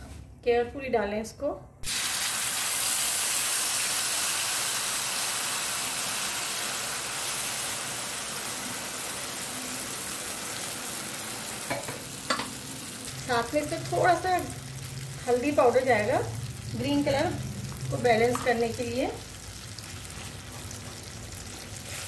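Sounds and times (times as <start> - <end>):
puree sizzling in hot oil: 1.8 - 22.0.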